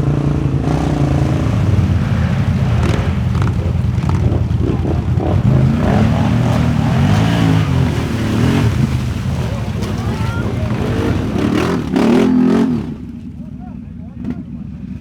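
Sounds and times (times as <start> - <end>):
atv engines revving: 0.0 - 15.0.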